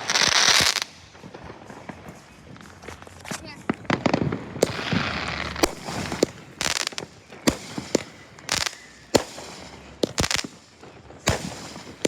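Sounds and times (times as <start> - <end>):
fireworks banging: 0.0 - 12.0
fireworks hissing: 0.0 - 12.0.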